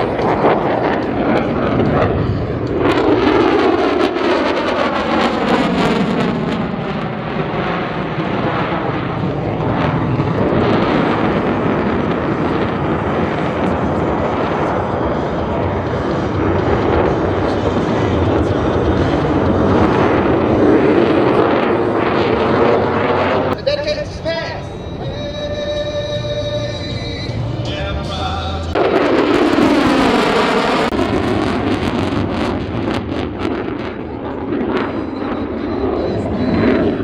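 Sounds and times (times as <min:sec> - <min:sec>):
jet engine roaring and whining: 0:00.0 - 0:37.0.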